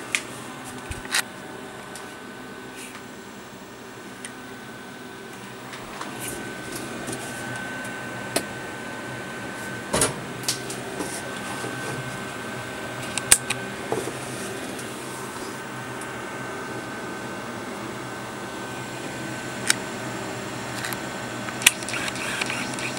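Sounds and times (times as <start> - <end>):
electric fan humming: 0.0 - 22.9.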